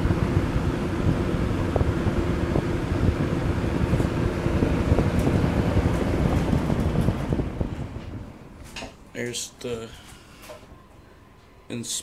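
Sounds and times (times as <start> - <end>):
fan air rush: 0.0 - 11.7
low steady hum: 0.0 - 12.0.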